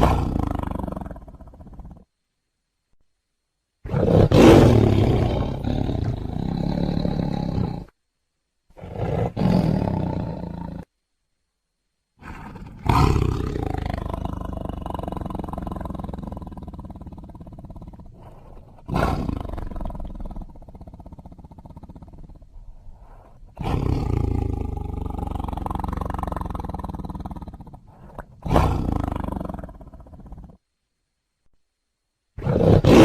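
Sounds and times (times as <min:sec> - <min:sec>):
tiger roaring: 0:00.0 - 0:02.1, 0:03.8 - 0:07.9, 0:08.7 - 0:10.9, 0:12.2 - 0:30.6, 0:32.4 - 0:33.0.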